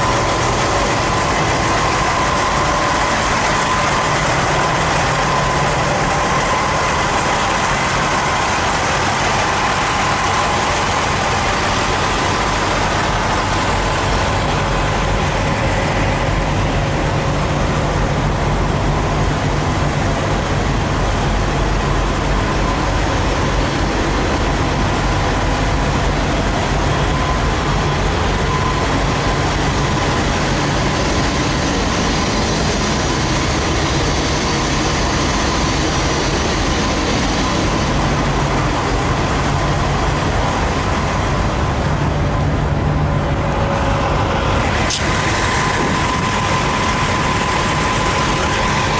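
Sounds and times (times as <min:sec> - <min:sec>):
diesel trucks idling: 0:00.0 - 0:48.9.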